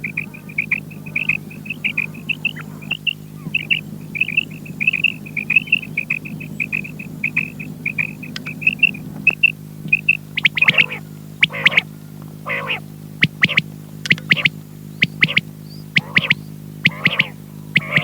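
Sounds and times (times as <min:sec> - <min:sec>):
quail calling: 0:00.0 - 0:18.0
steady low hum: 0:00.0 - 0:18.0.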